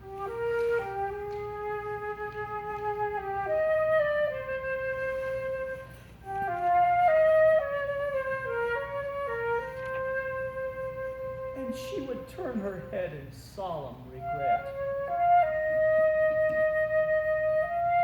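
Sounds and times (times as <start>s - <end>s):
solo flute: 0.0s - 12.7s, 14.2s - 18.0s.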